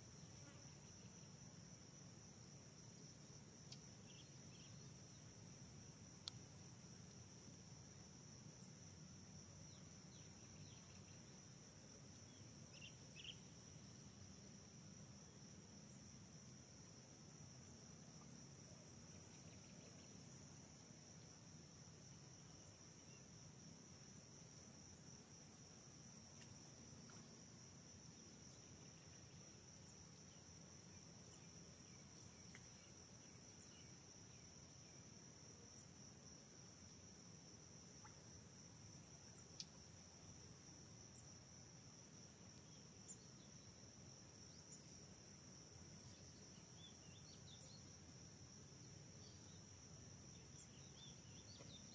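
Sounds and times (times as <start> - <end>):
insects chirring: 0.0 - 15.3, 17.4 - 51.9.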